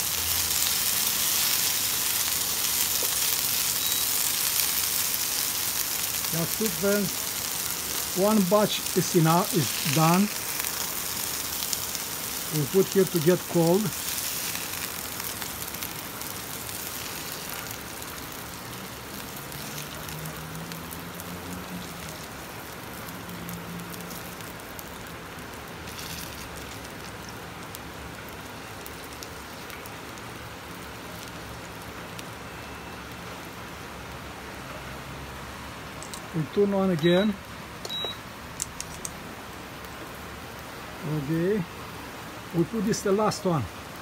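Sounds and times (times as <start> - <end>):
oil sizzling in a frying pan: 0.0 - 35.4.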